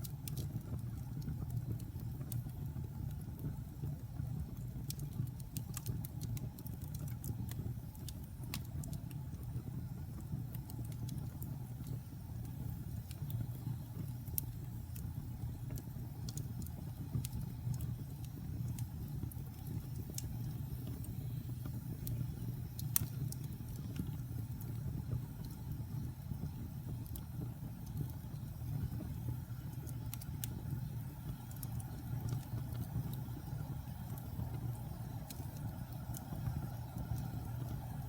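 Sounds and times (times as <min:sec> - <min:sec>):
fire crackling and popping: 0:00.0 - 0:38.0
fire rumbling: 0:00.0 - 0:38.0.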